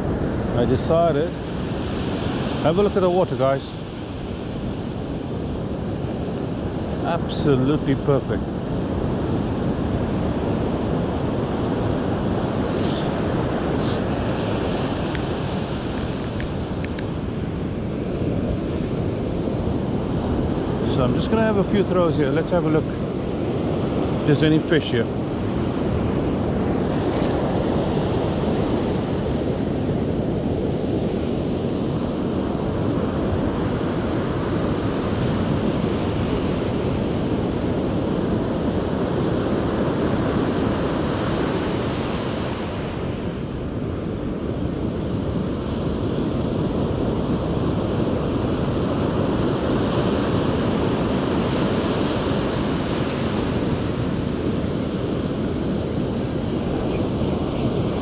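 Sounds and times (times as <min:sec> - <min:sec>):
surf breaking on a beach: 0:00.0 - 0:58.0
wind buffeting the microphone: 0:00.0 - 0:58.0.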